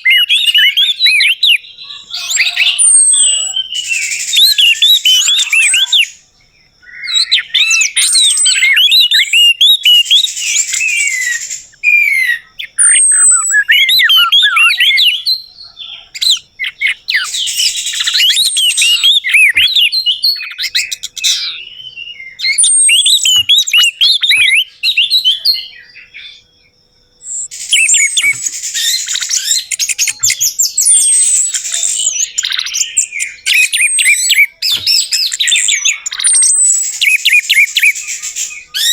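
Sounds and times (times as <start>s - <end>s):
thrush singing whistled notes: 0.0s - 38.9s.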